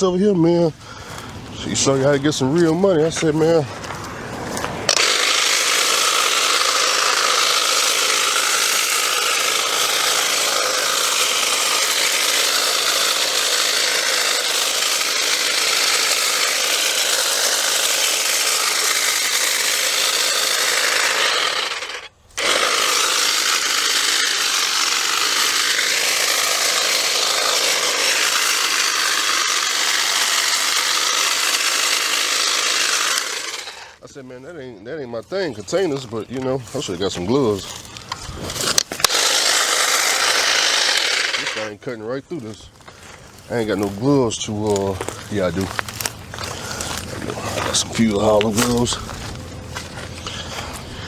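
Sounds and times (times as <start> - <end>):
power cutting tool running: 0.0 - 34.1, 35.2 - 51.0.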